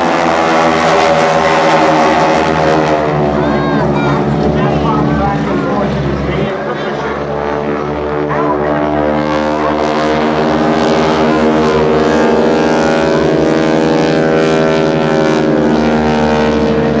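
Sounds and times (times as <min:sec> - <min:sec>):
biplane engines droning: 0:00.0 - 0:17.0.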